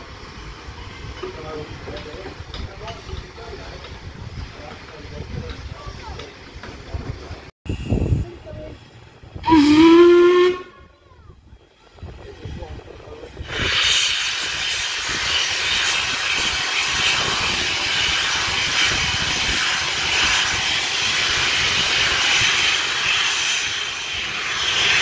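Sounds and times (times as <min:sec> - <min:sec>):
steam locomotive venting steam: 0:00.0 - 0:25.0.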